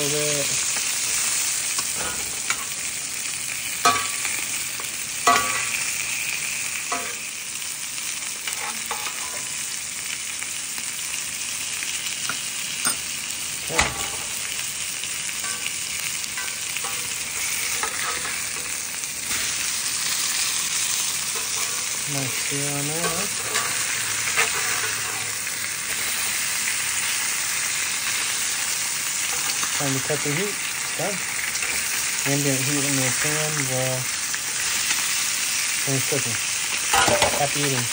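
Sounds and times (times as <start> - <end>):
fish sizzling in butter: 0.0 - 37.9.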